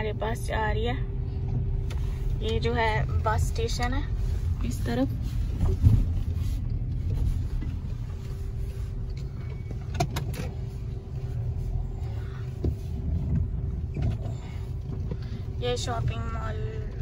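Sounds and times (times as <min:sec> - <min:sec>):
car engine and tyre rumble: 0:00.0 - 0:17.0
faint steady hum: 0:00.0 - 0:17.0.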